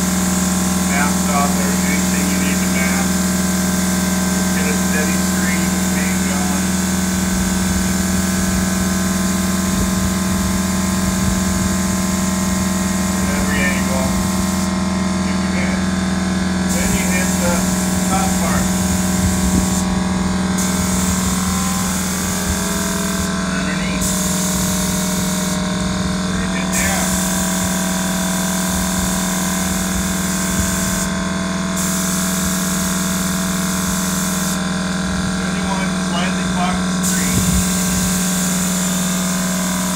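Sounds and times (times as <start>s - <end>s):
paint spray gun hissing: 0.0s - 34.7s, 35.5s - 39.9s
low machine hum: 0.0s - 39.9s.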